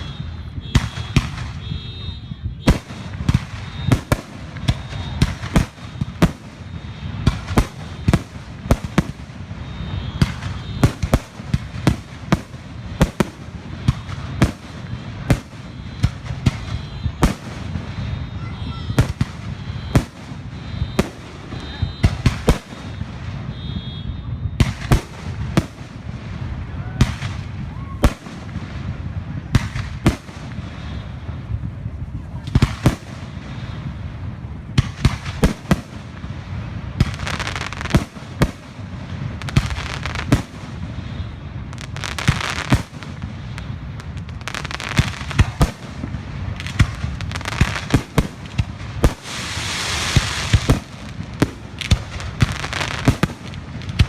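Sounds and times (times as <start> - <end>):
fireworks hissing crackle: 0.0 - 23.6, 24.6 - 54.0
fireworks banging: 0.0 - 54.0.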